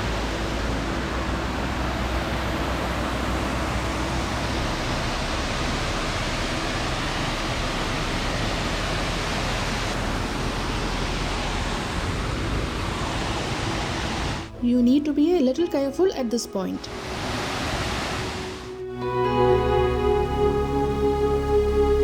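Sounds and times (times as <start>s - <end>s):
waterfall hiss: 0.0s - 14.5s, 16.8s - 22.0s.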